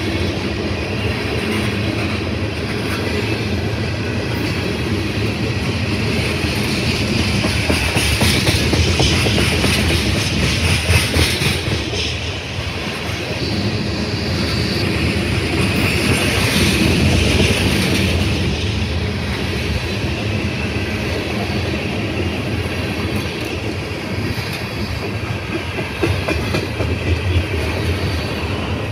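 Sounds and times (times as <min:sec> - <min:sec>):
train wheels rumbling and clacking: 0:00.0 - 0:28.9.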